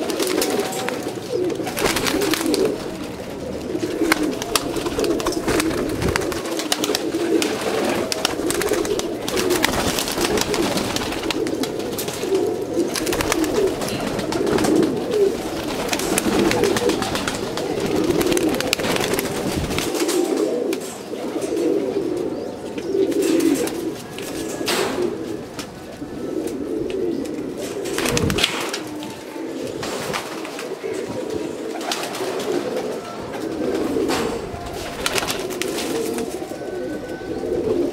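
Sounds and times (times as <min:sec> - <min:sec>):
pigeons cooing: 0:00.0 - 0:37.9.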